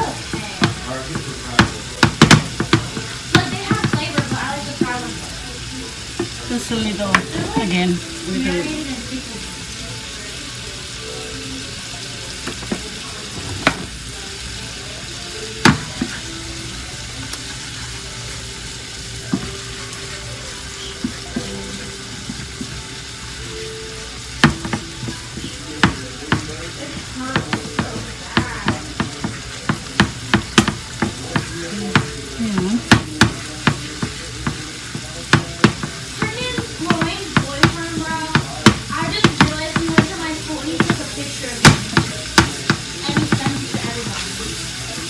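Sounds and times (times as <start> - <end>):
sizzling in a frying pan: 0.0 - 45.0.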